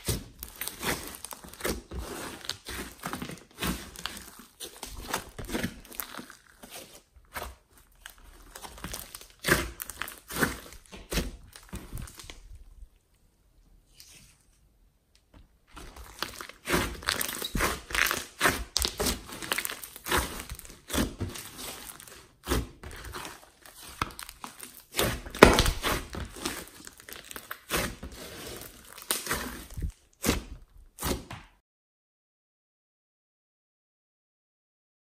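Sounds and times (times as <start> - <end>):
slime squelching and popping: 0.0 - 13.0, 15.6 - 31.3.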